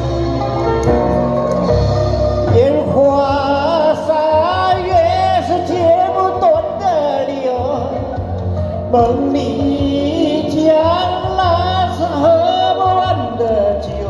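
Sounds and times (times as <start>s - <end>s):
backing music: 0.0s - 14.0s
man singing into a microphone: 2.5s - 14.0s.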